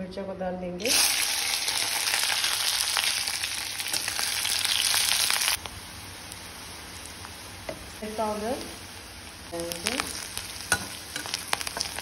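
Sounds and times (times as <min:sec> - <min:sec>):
vegetables sizzling in hot oil: 0:00.8 - 0:12.0.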